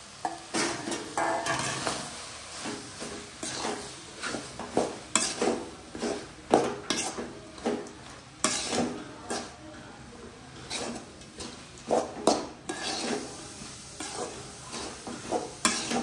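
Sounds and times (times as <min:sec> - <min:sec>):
light sizzle: 0:00.0 - 0:16.0
spoon scraping metal pan: 0:00.2 - 0:09.6, 0:10.5 - 0:16.0.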